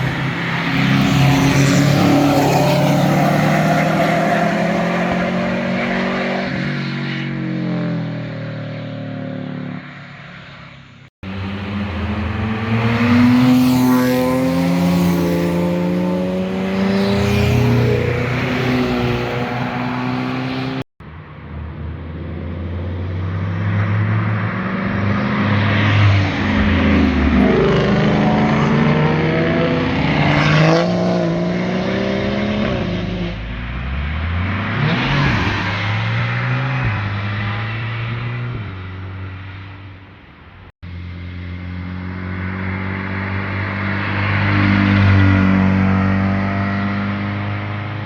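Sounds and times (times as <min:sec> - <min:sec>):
car engines revving past: 0:00.0 - 0:20.9, 0:21.9 - 0:40.3, 0:41.0 - 0:48.0.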